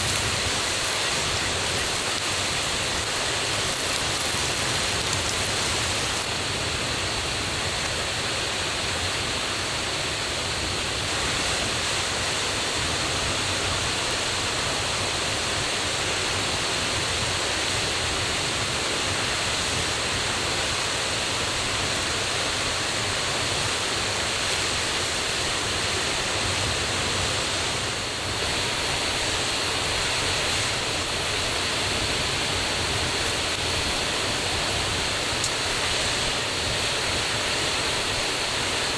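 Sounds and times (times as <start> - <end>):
waterfall and stream rushing: 0.0 - 38.9.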